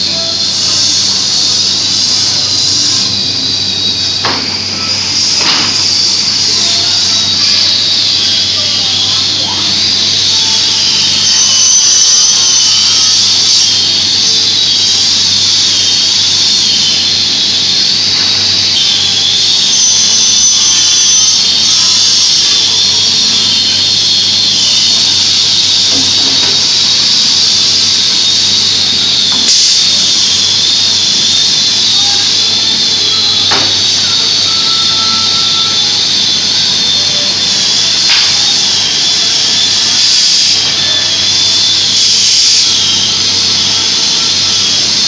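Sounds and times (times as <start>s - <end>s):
panel saw high whine: 0.0s - 45.0s.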